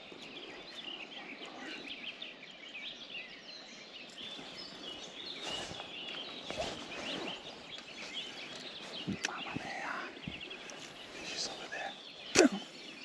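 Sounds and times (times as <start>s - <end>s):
songbirds singing and chirping: 0.0s - 13.0s.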